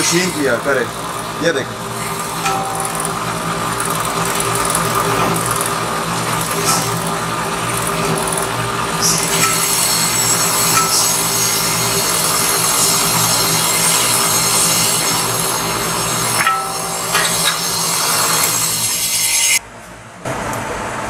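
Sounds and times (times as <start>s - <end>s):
tool scraping metal rim: 0.0s - 19.6s.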